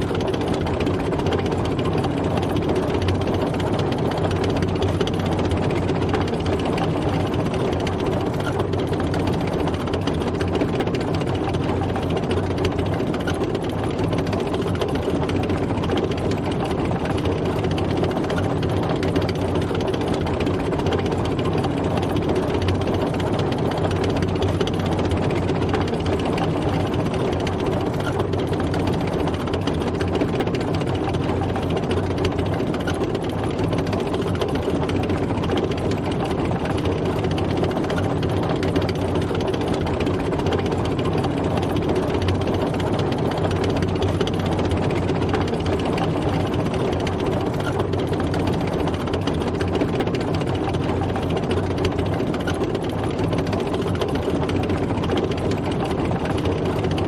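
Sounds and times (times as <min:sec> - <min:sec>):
tank engine droning: 0:00.0 - 0:57.0.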